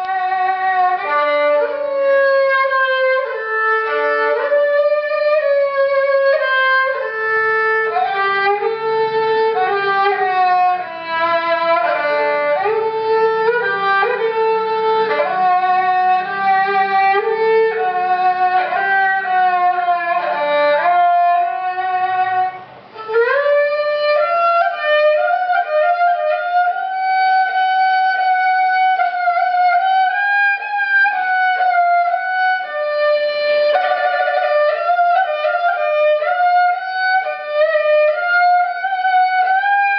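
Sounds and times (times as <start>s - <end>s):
bowed lute melody: 0.0s - 39.9s.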